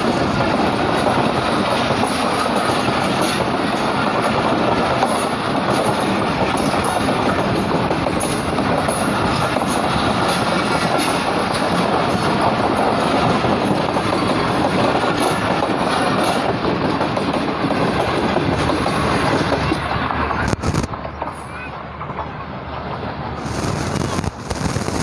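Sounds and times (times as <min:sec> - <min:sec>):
train rushing past on rails: 0:00.0 - 0:25.0.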